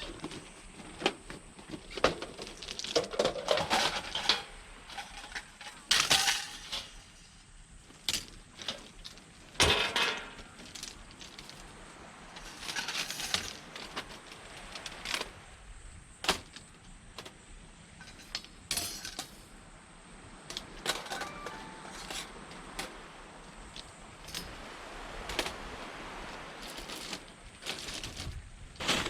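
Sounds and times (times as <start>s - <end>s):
camp gear clinking and knocking: 0.0s - 7.3s, 7.9s - 11.8s, 12.4s - 15.4s, 16.1s - 19.6s, 20.4s - 25.6s, 26.6s - 29.0s
surf washing on shore: 3.8s - 29.0s.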